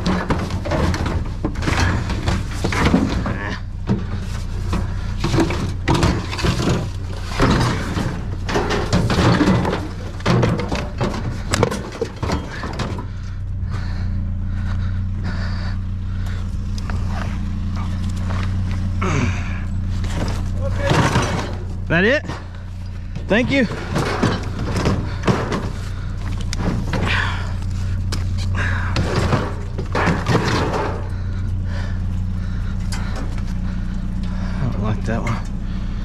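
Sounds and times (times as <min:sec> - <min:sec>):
scrap metal clanking and rattling: 0:00.0 - 0:36.0
steady low hum: 0:00.0 - 0:36.0.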